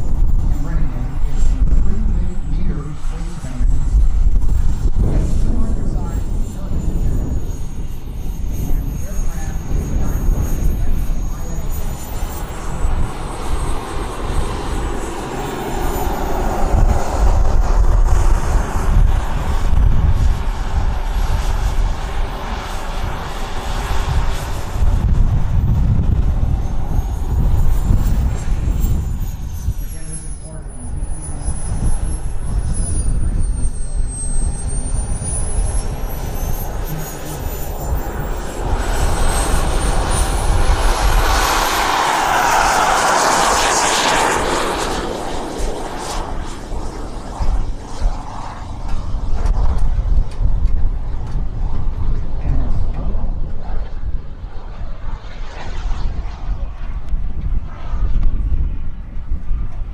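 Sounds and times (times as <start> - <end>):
jet engine whine: 0.0 - 59.9
wind on microphone: 0.0 - 59.9.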